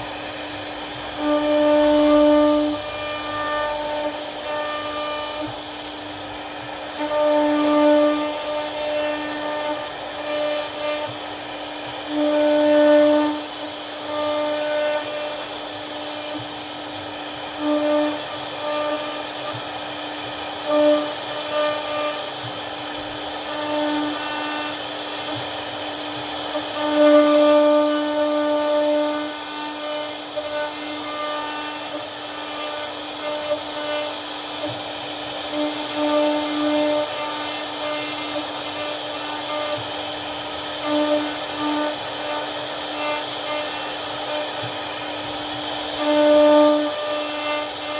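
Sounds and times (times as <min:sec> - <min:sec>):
cnc router spindle whining: 0:00.0 - 0:47.9
router bit carving wood: 0:00.0 - 0:47.9.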